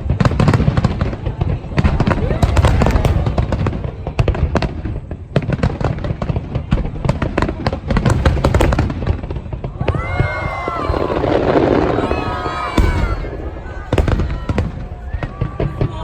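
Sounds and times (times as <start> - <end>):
deep fireworks booms: 0.0 - 16.0
fireworks bangs and crackles: 0.0 - 16.0.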